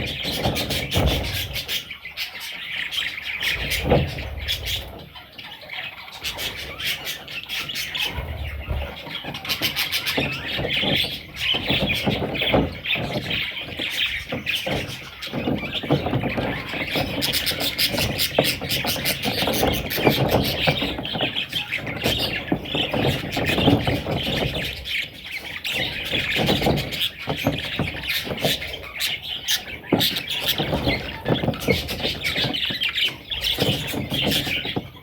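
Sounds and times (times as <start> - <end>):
budgerigars chattering and chirping: 0.0 - 35.0.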